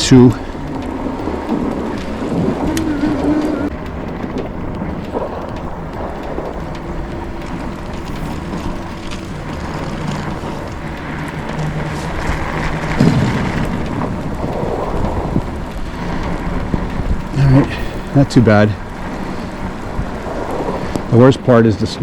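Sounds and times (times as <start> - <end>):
electric bike motor hum: 0.0 - 22.0
wind rumbling on microphone: 0.0 - 22.0.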